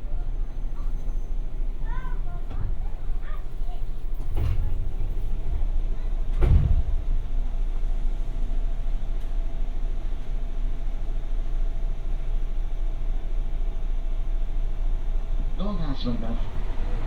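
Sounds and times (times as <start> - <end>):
train car equipment hum: 0.0 - 17.0.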